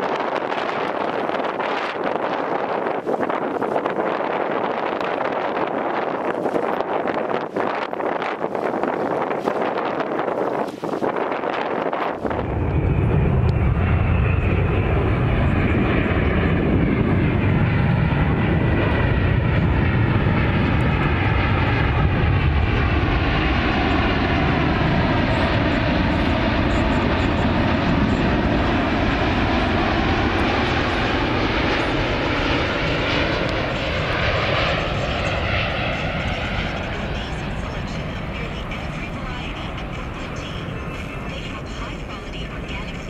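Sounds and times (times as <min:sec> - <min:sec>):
jet airliner roar overhead: 0:00.0 - 0:43.0.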